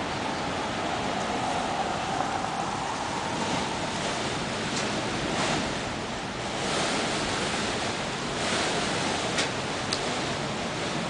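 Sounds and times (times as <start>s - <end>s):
gusty wind through branches: 0.0s - 11.0s.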